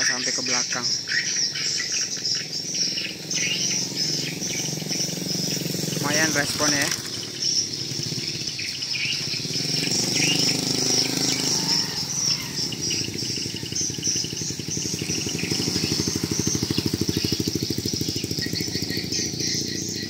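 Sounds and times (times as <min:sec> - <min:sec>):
high chirping bird twitters: 0:00.0 - 0:20.0.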